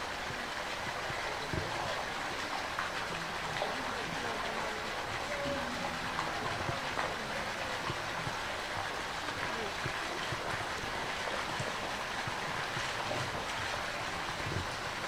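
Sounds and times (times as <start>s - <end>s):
faint distant voices: 0.0s - 15.0s
running water rushing: 0.0s - 15.0s.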